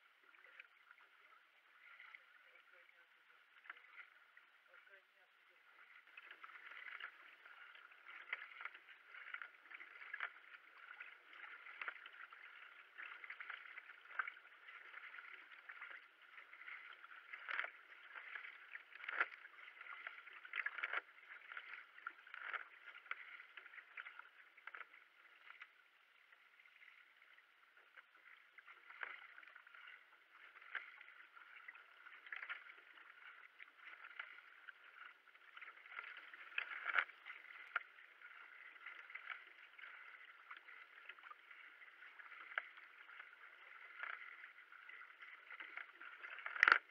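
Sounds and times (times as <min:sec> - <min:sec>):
paddle splashing in water: 0:00.0 - 0:46.9
water rushing along hull: 0:00.0 - 0:46.9.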